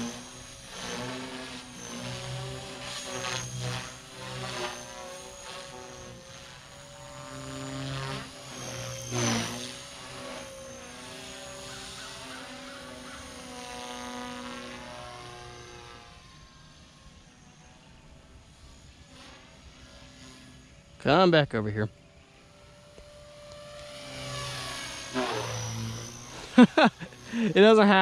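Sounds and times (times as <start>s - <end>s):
model helicopter rotor whine: 0.0s - 28.0s.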